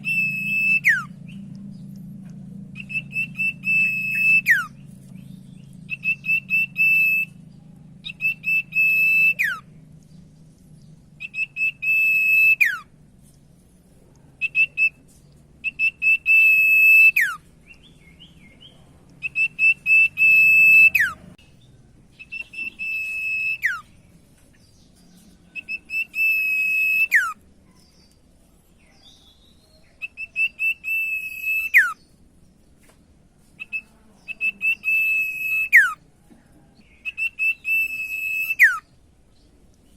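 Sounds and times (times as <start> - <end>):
bird singing whistled notes: 0.0 - 12.9, 14.4 - 27.4, 28.8 - 32.2, 33.6 - 36.0, 36.6 - 39.5.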